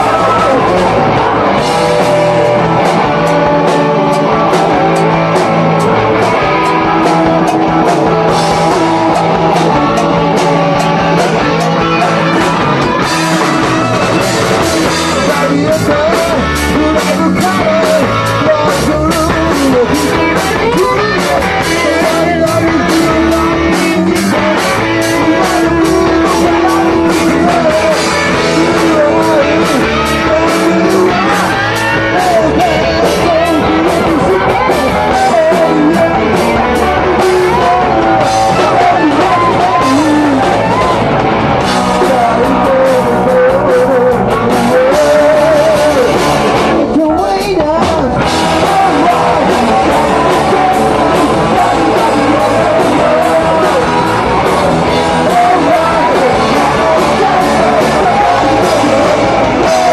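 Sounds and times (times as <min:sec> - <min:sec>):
drum kit beat: 0:00.0 - 0:59.9
electric bass: 0:00.0 - 0:59.9
electric guitars: 0:00.0 - 0:59.9.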